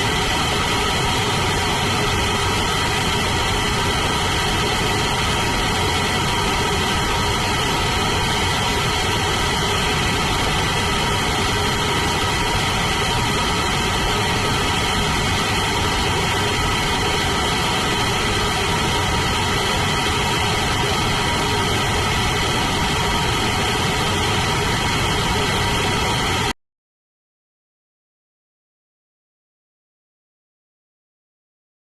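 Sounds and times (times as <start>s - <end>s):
rocket engine roaring: 0.0s - 26.5s.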